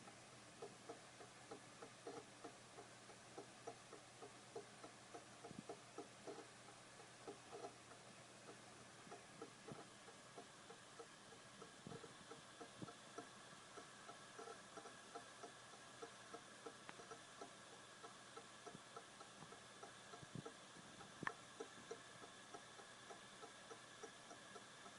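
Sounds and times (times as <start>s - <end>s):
hard drive clicking: 0.0s - 24.9s.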